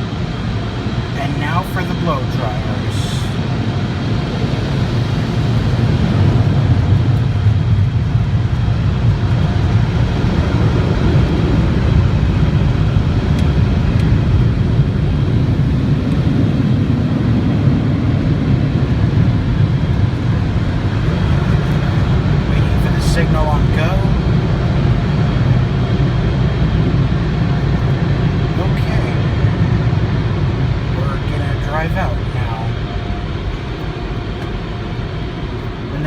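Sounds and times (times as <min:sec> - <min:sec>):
car wash blow dryers: 0:00.0 - 0:36.0.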